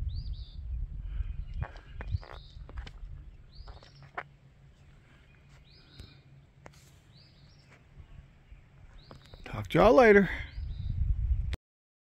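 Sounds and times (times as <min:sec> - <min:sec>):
faint bird song: 0:00.0 - 0:11.6
low steady rumble: 0:00.0 - 0:11.6.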